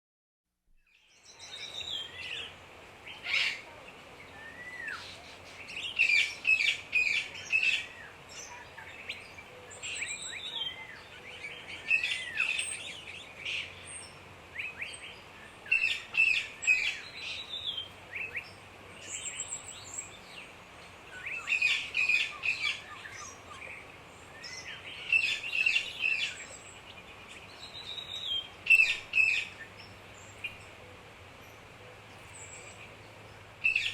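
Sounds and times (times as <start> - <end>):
faint background hiss: 0.7 - 33.9.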